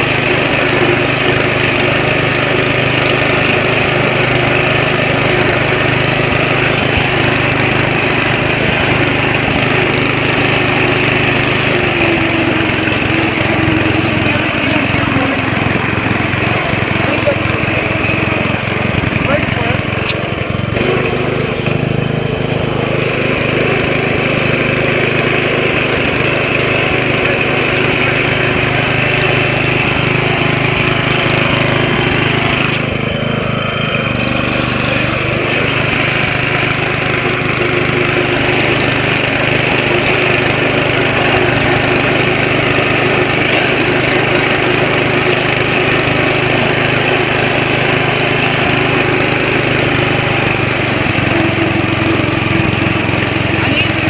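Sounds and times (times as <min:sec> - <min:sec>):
riding lawn mower engine running: 0:00.0 - 0:54.0.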